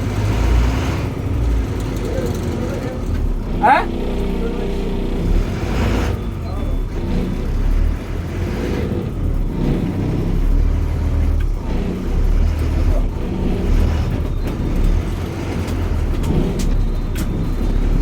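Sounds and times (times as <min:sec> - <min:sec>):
bus engine and drivetrain drone: 0:00.0 - 0:18.0.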